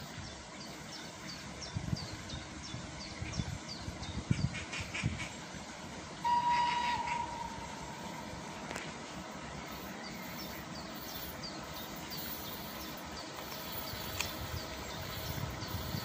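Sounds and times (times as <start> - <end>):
locomotive rumble: 0.0 - 16.0
outdoor background noise: 0.0 - 16.0.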